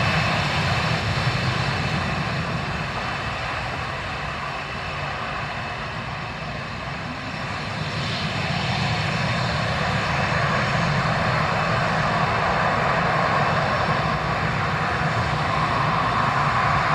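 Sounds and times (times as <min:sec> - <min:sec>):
jet engines at taxi power: 0:00.0 - 0:16.9.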